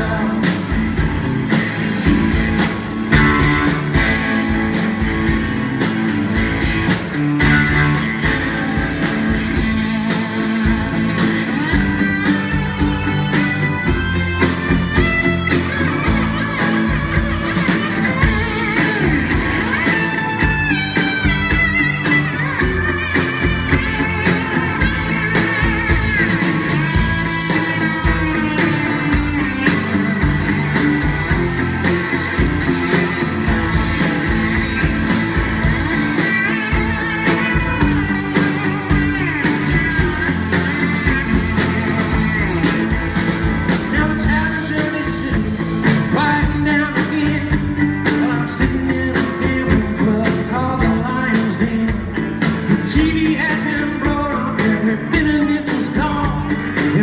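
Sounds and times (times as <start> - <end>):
electric guitar lead: 0.0 - 57.0
live rock band playing: 0.0 - 57.0.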